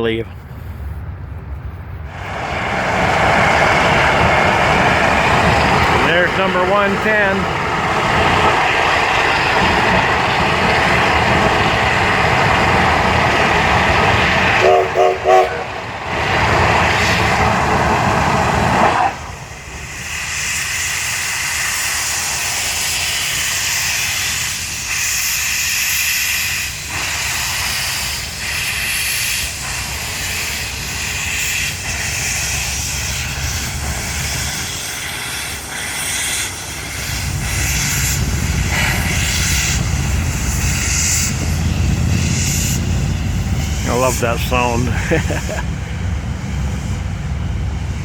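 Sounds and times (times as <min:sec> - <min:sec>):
locomotive low rumble: 0:00.1 - 0:20.0, 0:29.5 - 0:48.0
steam hissing: 0:02.1 - 0:48.0.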